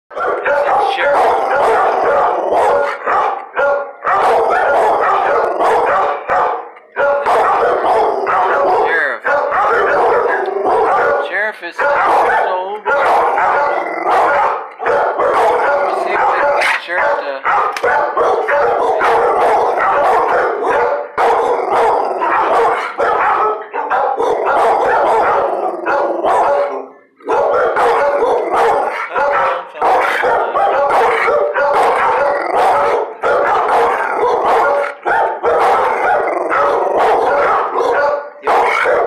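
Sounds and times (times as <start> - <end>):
dog barking and howling: 0.1 - 39.0.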